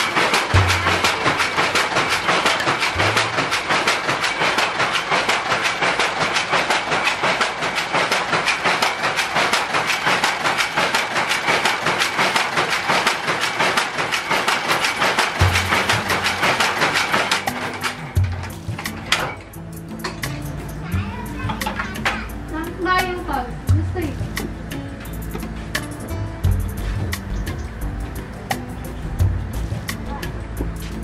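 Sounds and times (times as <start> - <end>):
bobbin winder clattering: 0.0 - 26.1.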